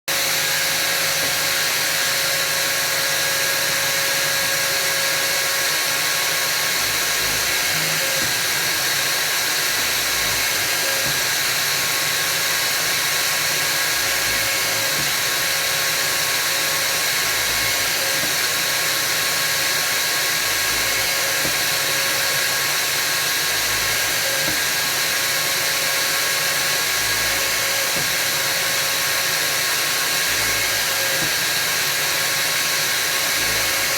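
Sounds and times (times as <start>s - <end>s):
electric drill drilling wood: 0.1s - 33.9s.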